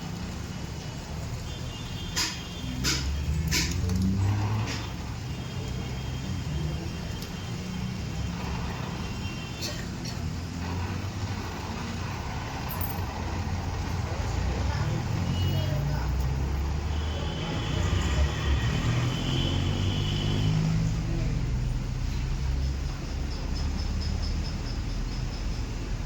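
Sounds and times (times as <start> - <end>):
car engine rumbling: 1.0 - 26.0.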